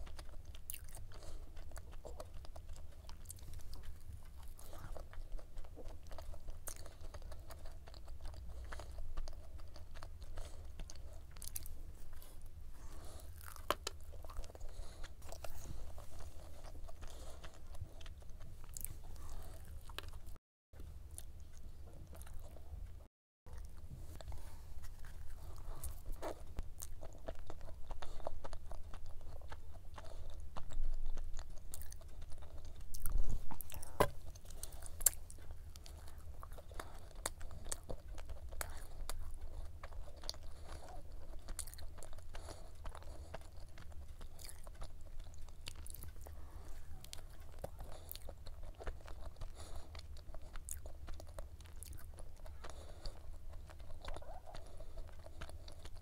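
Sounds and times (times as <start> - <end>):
chewing flaky pastry: 0.0 - 56.0.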